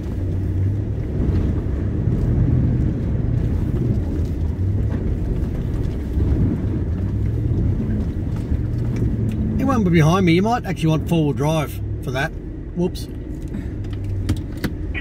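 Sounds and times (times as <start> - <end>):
engine and tyre drone: 0.0 - 15.0.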